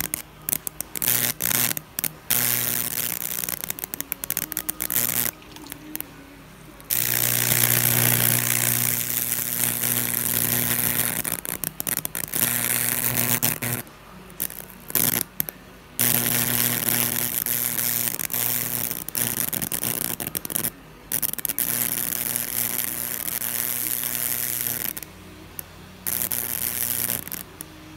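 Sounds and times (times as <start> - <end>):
crackling hiss of arcing: 0.0 - 27.9
loud electrical buzz: 0.0 - 27.9.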